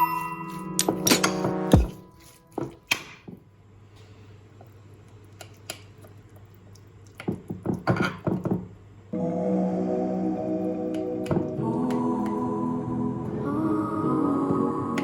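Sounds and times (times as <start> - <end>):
faint steady hum: 1.5 - 15.0.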